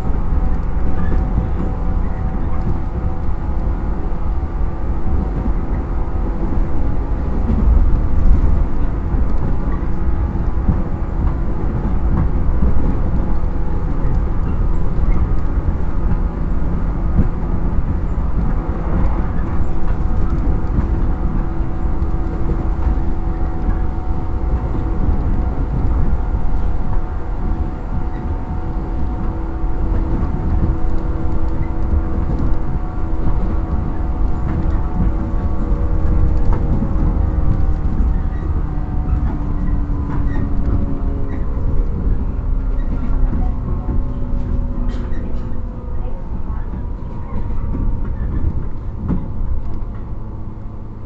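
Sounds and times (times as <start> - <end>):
train rail rumble: 0.0 - 51.0.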